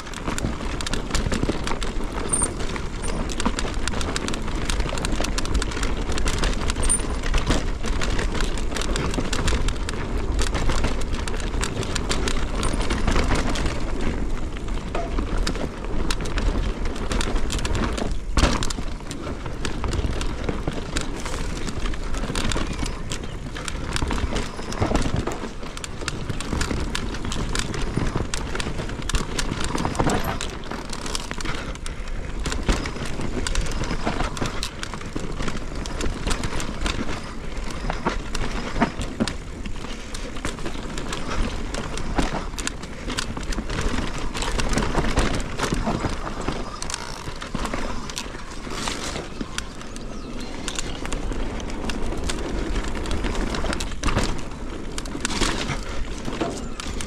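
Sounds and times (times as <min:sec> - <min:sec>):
bike tyres rumbling on dirt: 0:00.0 - 0:57.0
chain and frame clatter: 0:00.0 - 0:57.0.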